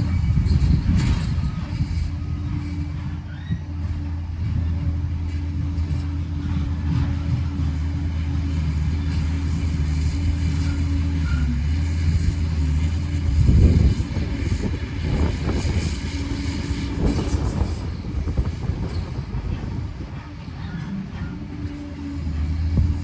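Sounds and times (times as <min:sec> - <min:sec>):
dozer diesel engine running: 0:00.0 - 0:23.0
engine rumbling and knocking: 0:00.0 - 0:23.0.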